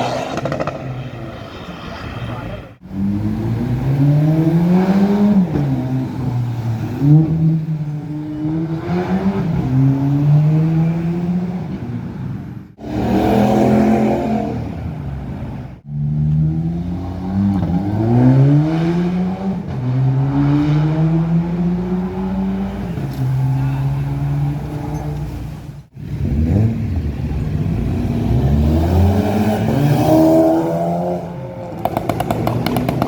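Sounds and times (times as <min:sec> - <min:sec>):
car engines accelerating: 0:00.0 - 0:33.0.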